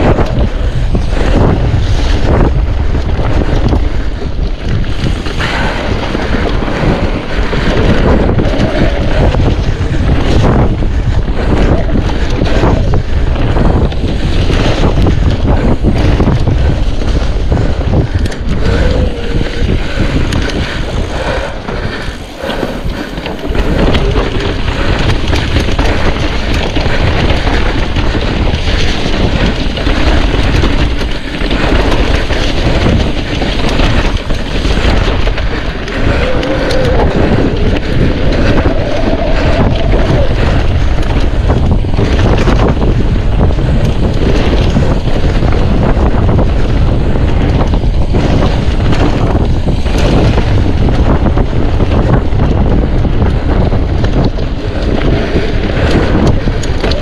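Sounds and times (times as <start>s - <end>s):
bike rattling and knocking: 0.0s - 57.0s
wind buffeting microphone: 0.0s - 57.0s.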